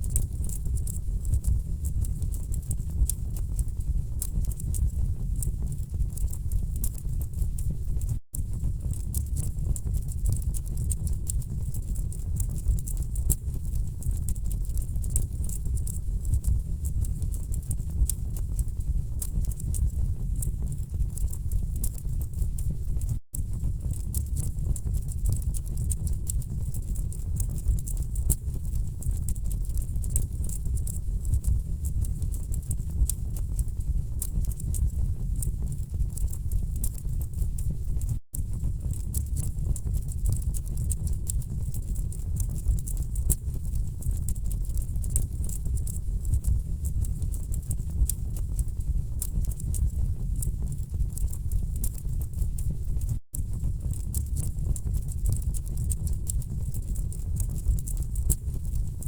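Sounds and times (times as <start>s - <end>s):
low rumble of flames: 0.0s - 59.0s.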